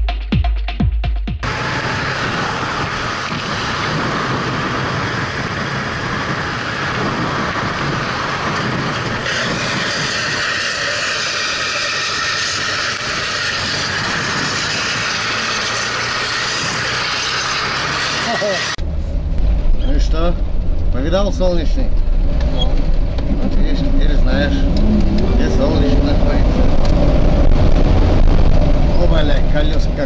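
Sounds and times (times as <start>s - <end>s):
wind rushing on microphone: 1.4s - 17.2s, 18.8s - 30.0s.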